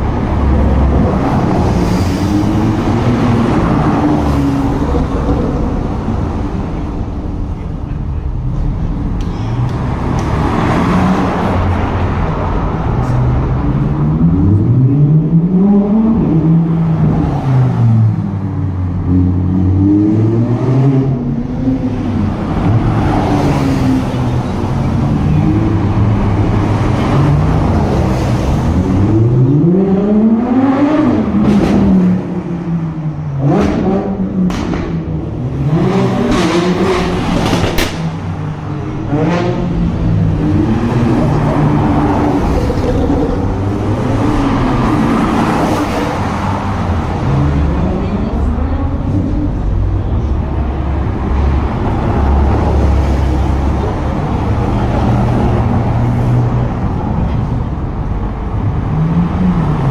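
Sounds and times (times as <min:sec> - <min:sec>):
sports cars revving past: 0:09.6 - 0:59.9.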